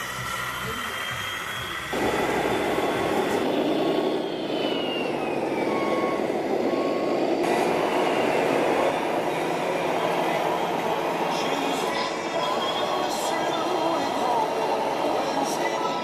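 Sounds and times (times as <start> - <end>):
model truck diesel engine sound: 0.0 - 16.0.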